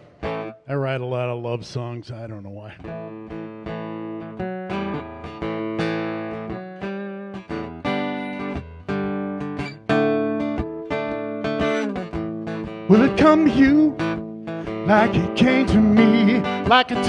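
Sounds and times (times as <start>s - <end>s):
guitar strumming chords: 0.0s - 1.4s, 2.6s - 17.0s.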